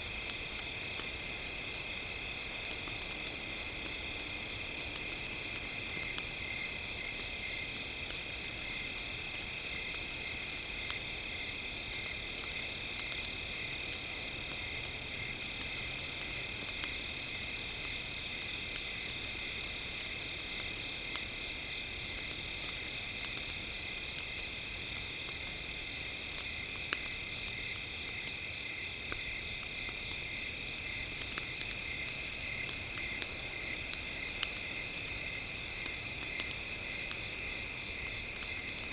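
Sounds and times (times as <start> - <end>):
campfire crackling: 0.0 - 38.9
crickets and insects chirping: 0.0 - 38.9.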